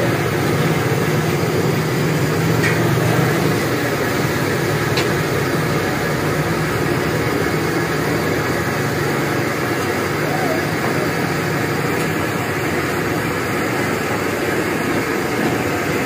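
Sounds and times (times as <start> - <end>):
gas burner roar: 0.0 - 16.0.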